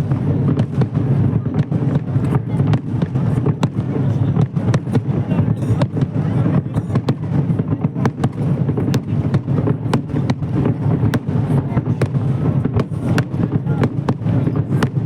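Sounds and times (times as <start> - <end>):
fireworks sharp cracks: 0.0 - 15.0
low rumble of fireworks bursts: 0.0 - 15.0.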